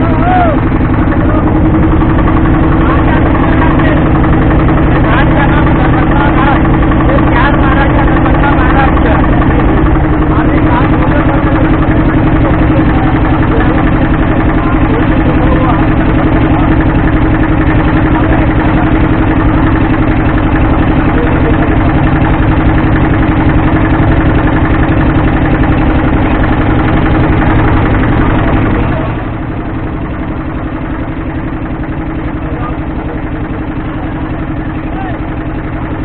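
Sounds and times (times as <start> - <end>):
motorboat engine running: 0.0 - 36.0.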